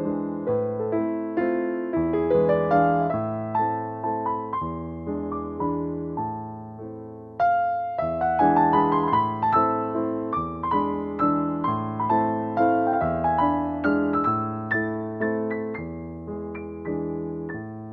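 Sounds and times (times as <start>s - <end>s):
slow piano music: 0.0s - 17.9s.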